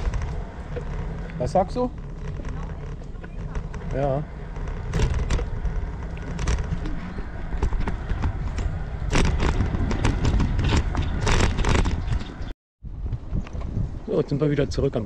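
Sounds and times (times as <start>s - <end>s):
tyres rolling over rough pavement: 0.0s - 12.5s
bike clicks and rattles: 0.0s - 13.9s
wind buffeting microphone: 0.0s - 15.0s.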